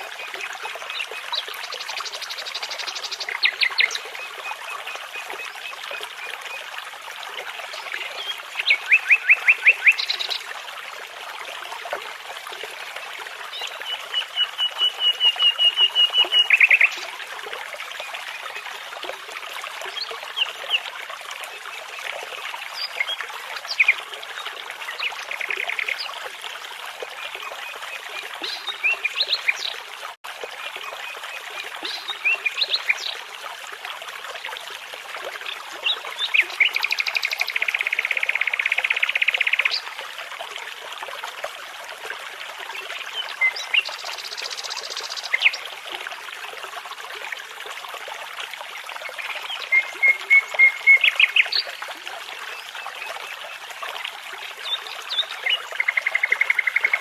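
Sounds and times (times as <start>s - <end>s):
babbling brook: 0.0s - 57.0s.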